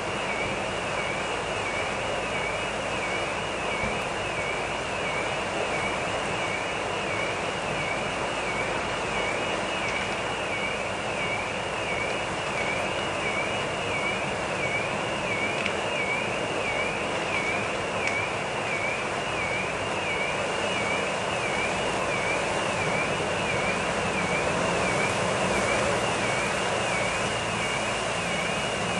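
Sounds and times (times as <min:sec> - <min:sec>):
traffic noise: 0:00.0 - 0:28.9
warbling alarm siren: 0:00.0 - 0:28.9.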